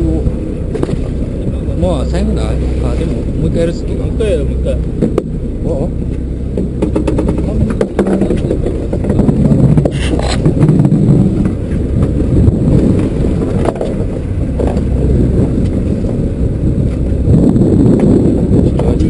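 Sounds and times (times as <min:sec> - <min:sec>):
boat engine running: 0:00.0 - 0:19.0
wind buffeting microphone: 0:00.0 - 0:19.0.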